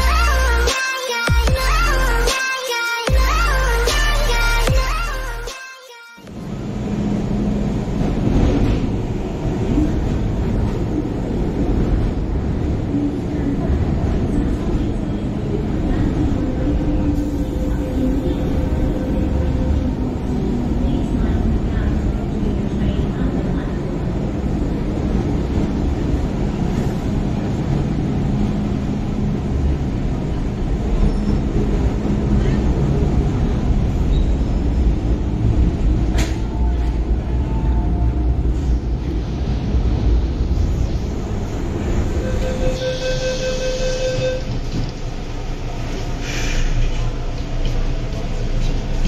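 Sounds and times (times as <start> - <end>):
electric train hum: 6.3 - 49.0
train wheels rumbling on rails: 6.3 - 49.0.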